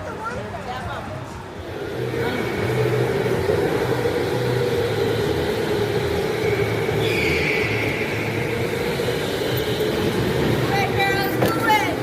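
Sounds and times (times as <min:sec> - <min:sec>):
electric go-kart motor whine: 0:01.6 - 0:12.0.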